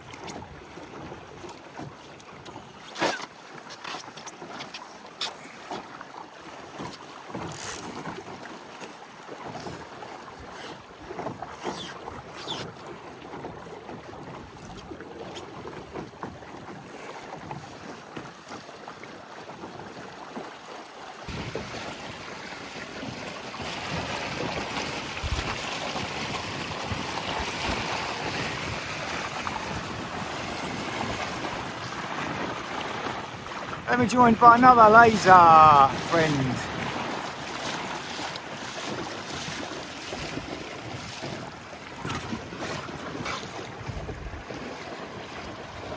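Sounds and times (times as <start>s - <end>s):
water lapping against hull: 0.0s - 45.9s.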